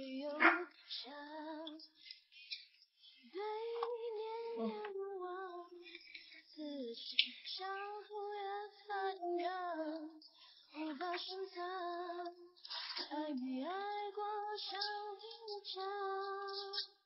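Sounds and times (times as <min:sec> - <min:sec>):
woman singing: 0:00.0 - 0:02.0, 0:03.2 - 0:17.0.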